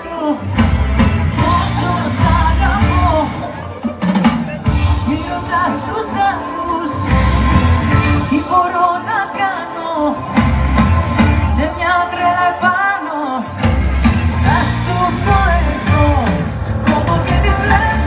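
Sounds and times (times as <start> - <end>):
live pop band playing: 0.0 - 18.0.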